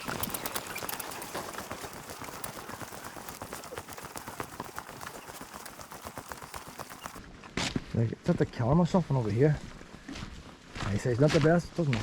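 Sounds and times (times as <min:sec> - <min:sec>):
footsteps outdoors: 0:00.0 - 0:12.0.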